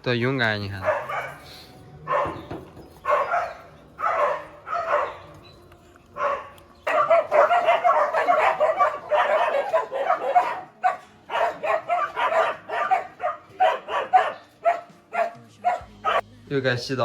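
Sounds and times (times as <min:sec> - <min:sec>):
dogs barking: 0:00.0 - 0:16.2.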